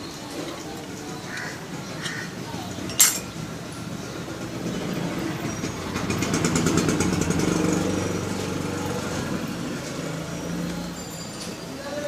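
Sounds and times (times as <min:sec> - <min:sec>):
vehicle engine running: 0:01.7 - 0:11.4.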